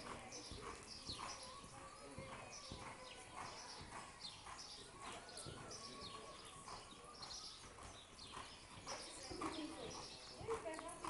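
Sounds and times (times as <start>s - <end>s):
horse hoofbeats on dirt: 0.0s - 11.0s.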